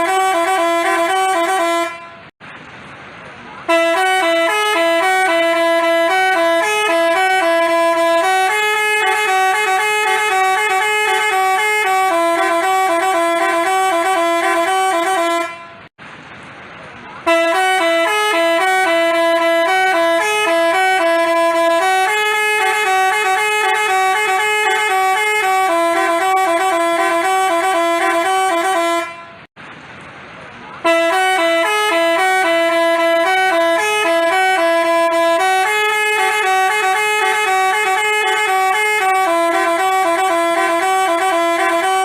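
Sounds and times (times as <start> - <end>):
musical bus horn playing tune: 0.0 - 2.4, 3.6 - 15.9, 17.2 - 29.5, 30.8 - 42.0.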